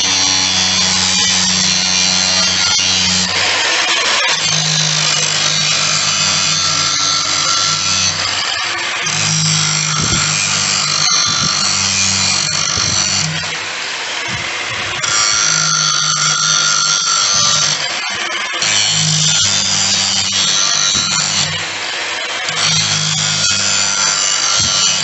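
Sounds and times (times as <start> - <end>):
angle grinder grinding metal: 0.0 - 25.0.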